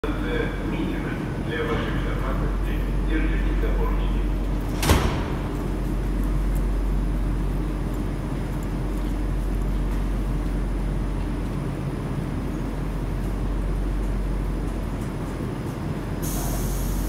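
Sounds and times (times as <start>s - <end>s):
station background drone: 0.0s - 17.0s
train humming: 0.0s - 17.0s.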